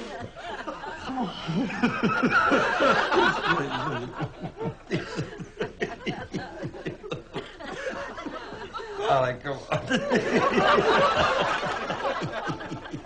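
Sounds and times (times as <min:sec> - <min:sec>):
man and woman laughing: 0:00.4 - 0:13.0.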